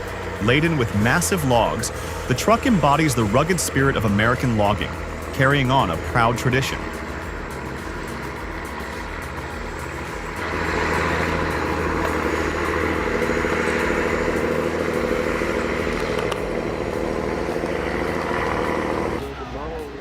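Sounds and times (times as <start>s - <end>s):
truck diesel engine straining: 0.0s - 20.0s.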